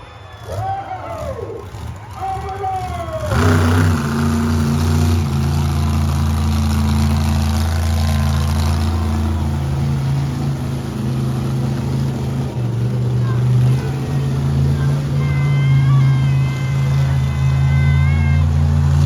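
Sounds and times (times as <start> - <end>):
monster truck engine running: 0.0 - 19.0.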